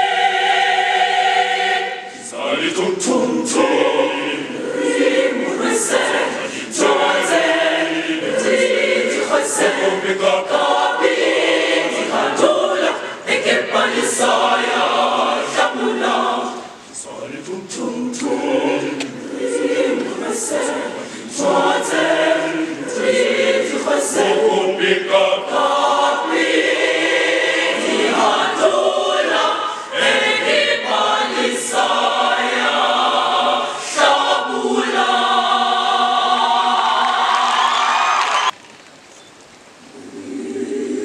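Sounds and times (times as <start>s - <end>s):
children's choir singing: 0.0s - 38.5s, 39.9s - 41.0s.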